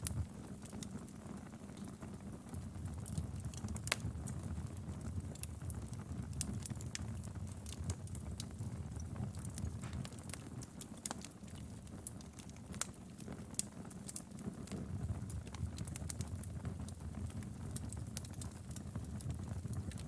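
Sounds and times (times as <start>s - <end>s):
fire flames rumbling: 0.0s - 20.0s
wood fire crackling and popping: 0.0s - 20.0s.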